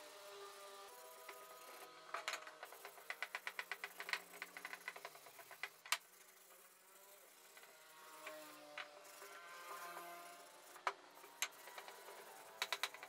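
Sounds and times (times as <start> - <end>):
sanding pad scratching wood: 0.7 - 13.0.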